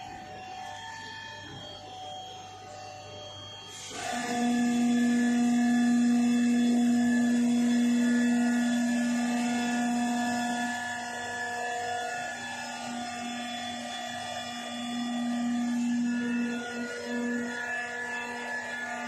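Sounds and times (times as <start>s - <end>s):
washing machine whine: 0.0s - 19.0s.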